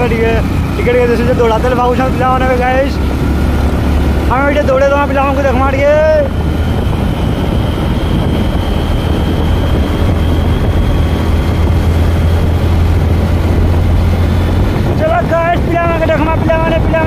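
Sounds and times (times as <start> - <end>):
motorbike engine and tyre rumble: 0.0 - 17.0
wind rushing over microphone: 0.0 - 17.0.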